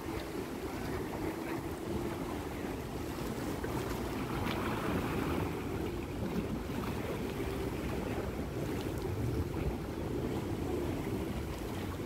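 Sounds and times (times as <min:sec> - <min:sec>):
low drone of boats: 0:00.0 - 0:12.0
wind rumbling on microphone: 0:00.0 - 0:12.0.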